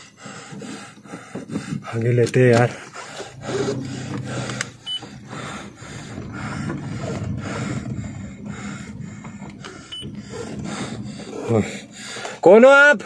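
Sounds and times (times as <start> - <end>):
light knocks and rattles: 0.5 - 12.5.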